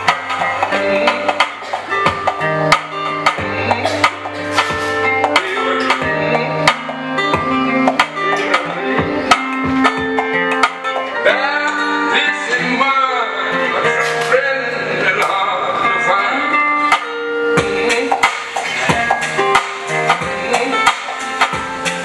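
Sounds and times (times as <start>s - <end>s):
plucked guitar: 0.0s - 22.0s.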